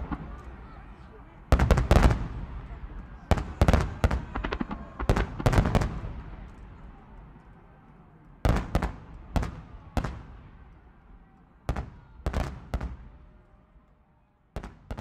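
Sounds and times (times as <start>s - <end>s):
fireworks bursting with bangs: 0.0s - 13.4s, 14.6s - 15.0s.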